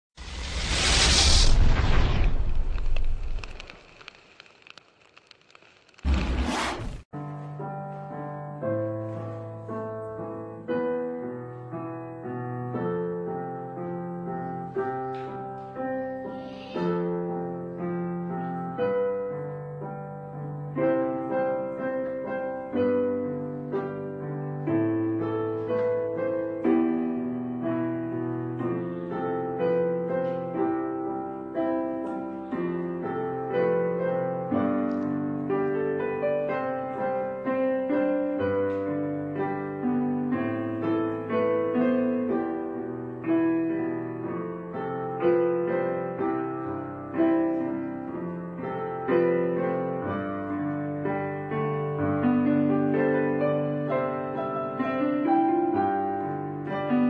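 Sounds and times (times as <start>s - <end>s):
piano music: 7.1s - 57.0s.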